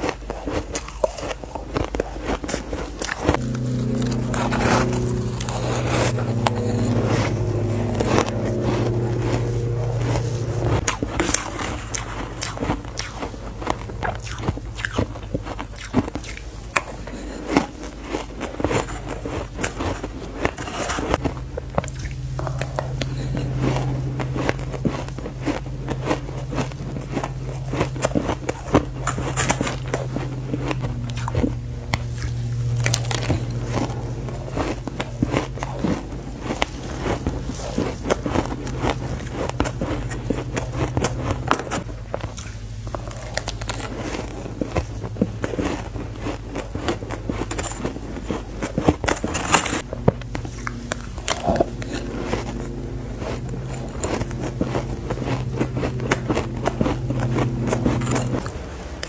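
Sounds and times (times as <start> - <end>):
ice crunching being chewed: 0.0 - 59.0
low steady hum: 0.0 - 59.0.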